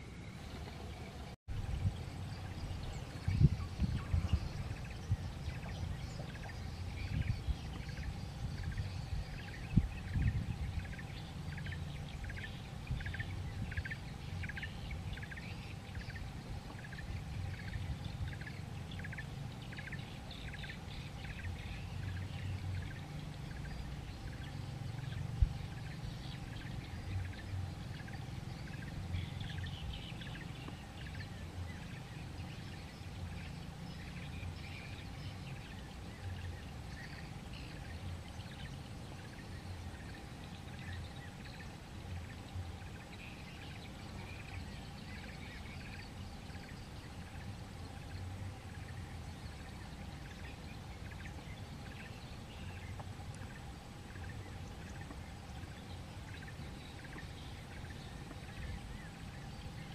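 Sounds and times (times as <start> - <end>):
birds chirping: 0.0 - 59.9
steady low rumble: 0.0 - 59.9.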